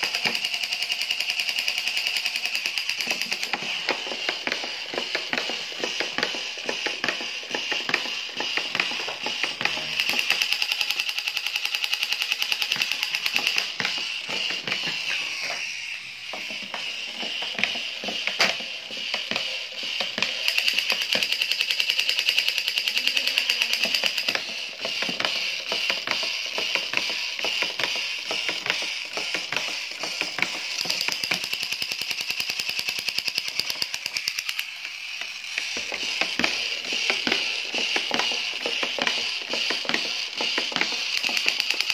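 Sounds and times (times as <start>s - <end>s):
toy machine-gun sound effect: 0.0s - 41.9s.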